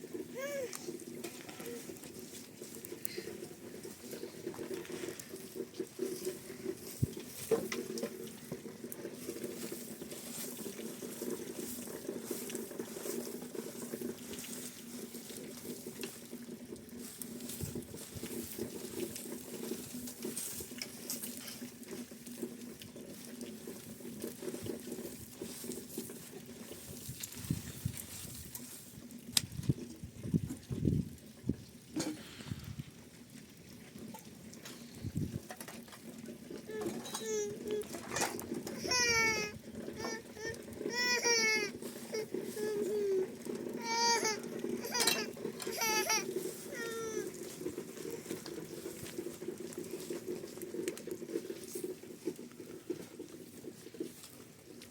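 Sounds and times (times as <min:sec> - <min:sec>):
water patter: 0:00.0 - 0:54.9.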